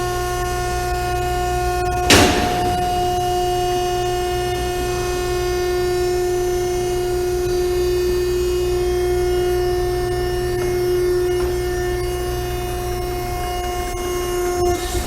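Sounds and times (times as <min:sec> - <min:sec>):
hydraulic pump whining hum: 0:00.0 - 0:15.0.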